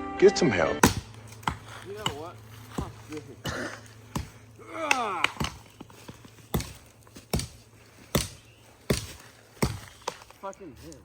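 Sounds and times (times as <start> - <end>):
axe chopping into tree: 0.8 - 11.0.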